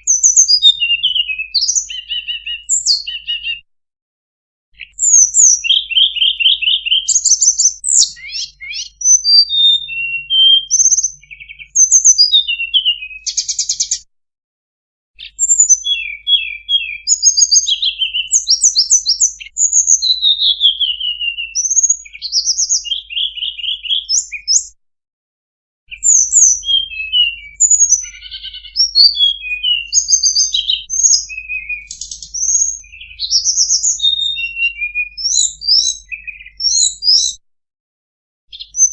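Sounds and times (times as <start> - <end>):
birdsong with whistles and trills: 0.0 - 3.7, 4.8 - 14.1, 15.2 - 24.8, 25.9 - 37.4, 38.5 - 38.9.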